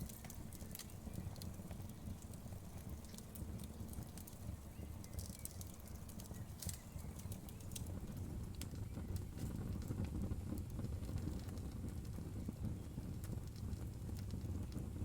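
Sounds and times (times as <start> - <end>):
burning wood crackling: 0.0 - 15.0
low rumble of flames: 0.0 - 15.0.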